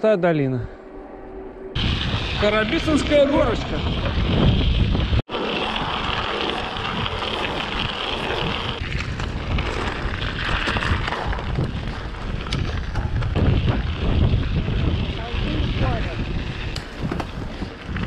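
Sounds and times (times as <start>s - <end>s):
wind rushing over microphone: 1.7s - 18.0s
tyre noise on road: 1.8s - 18.0s.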